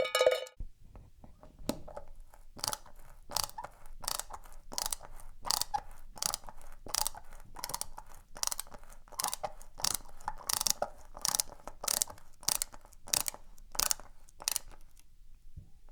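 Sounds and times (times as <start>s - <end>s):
screwdriver scraping and clicking: 1.5s - 15.1s.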